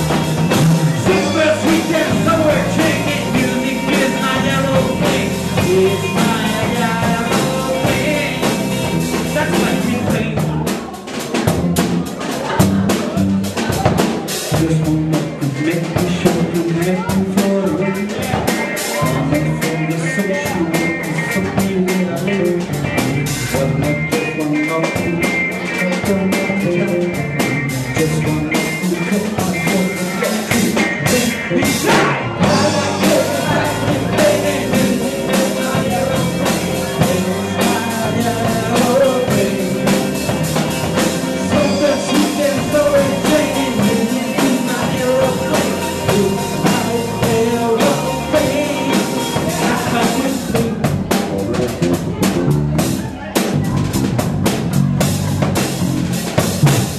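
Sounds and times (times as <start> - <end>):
electric guitar: 0.0 - 10.9, 14.4 - 56.9
person singing: 0.0 - 11.2, 12.2 - 53.8
bass guitar: 0.0 - 56.9
drum kit: 0.0 - 56.9.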